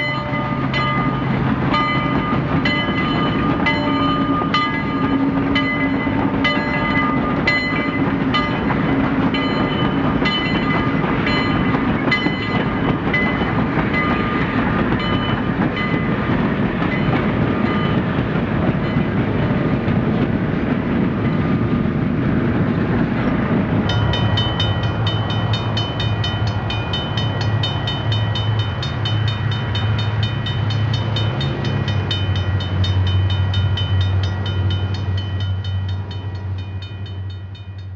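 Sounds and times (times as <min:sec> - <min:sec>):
train running with rhythmic clicks: 0:00.0 - 0:37.9.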